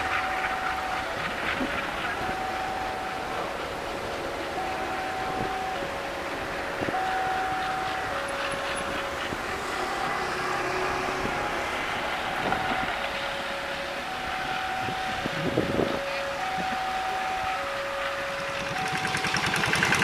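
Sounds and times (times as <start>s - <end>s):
thin high whine: 0.0s - 19.9s
freight train rolling: 0.0s - 20.0s
train clanks: 0.0s - 20.0s.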